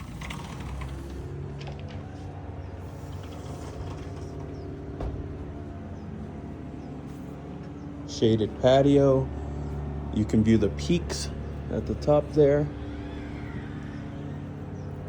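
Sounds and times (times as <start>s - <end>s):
machinery engine drone: 0.0s - 15.0s.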